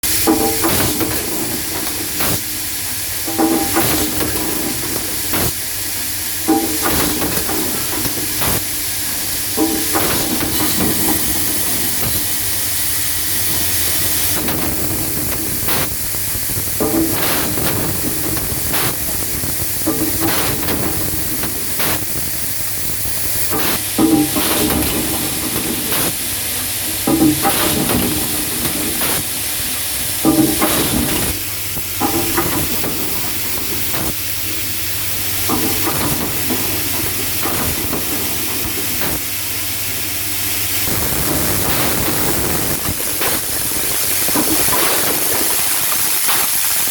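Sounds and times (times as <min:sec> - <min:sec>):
machine clacks and knocks: 0:00.0 - 0:46.9
machine hissing: 0:00.0 - 0:46.9.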